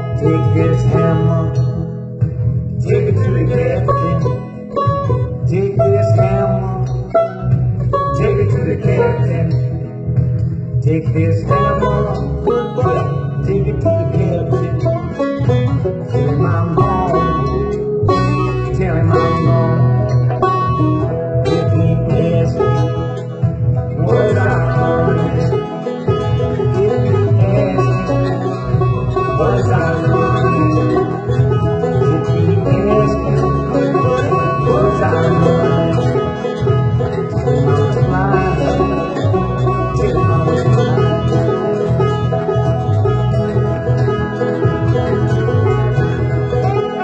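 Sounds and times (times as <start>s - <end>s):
banjo picking: 0.0s - 47.0s
bass accompaniment: 0.0s - 47.0s
guitar accompaniment: 0.0s - 47.0s.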